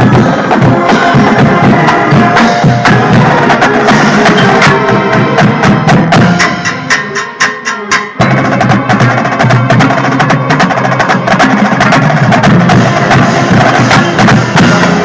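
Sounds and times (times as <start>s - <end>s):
marching drumline cadence: 0.0s - 15.0s.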